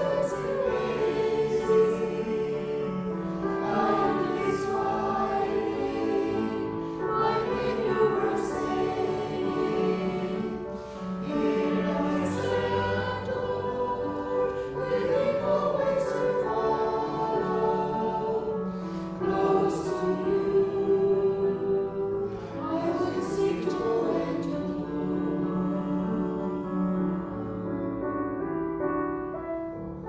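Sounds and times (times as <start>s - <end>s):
group singing a hymn: 0.0s - 28.2s.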